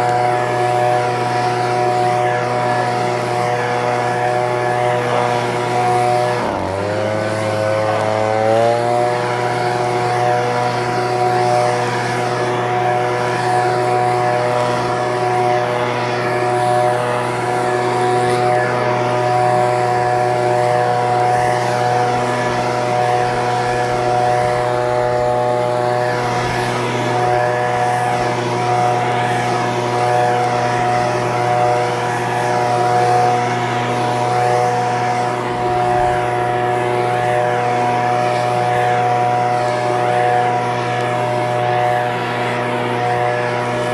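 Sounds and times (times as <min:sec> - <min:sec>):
leaf blower engine running: 0:00.0 - 0:43.9.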